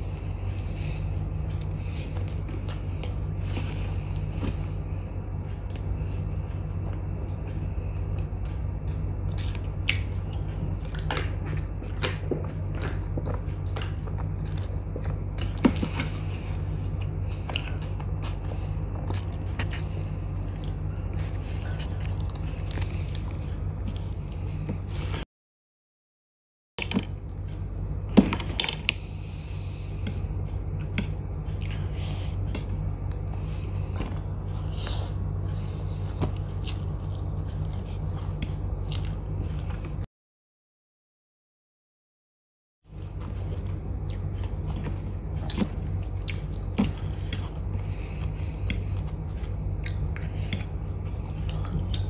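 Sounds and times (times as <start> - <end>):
low hum: 0.0 - 25.2, 26.8 - 40.1, 42.9 - 52.0
person chewing food: 0.0 - 25.2, 26.9 - 40.0, 42.9 - 52.0.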